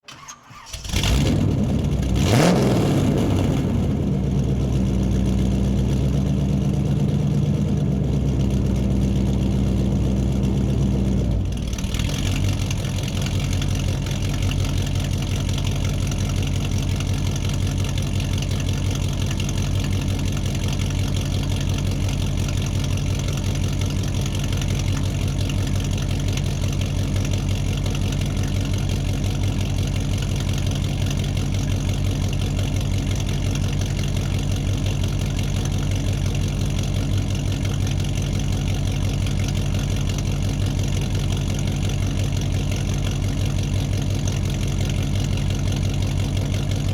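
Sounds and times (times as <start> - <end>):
car engine starting and idling: 0.0 - 46.9.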